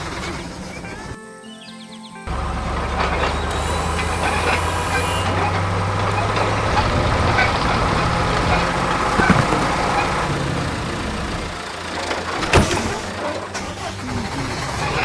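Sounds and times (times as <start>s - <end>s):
heavy diesel engine running: 0.0s - 1.2s, 2.3s - 15.0s.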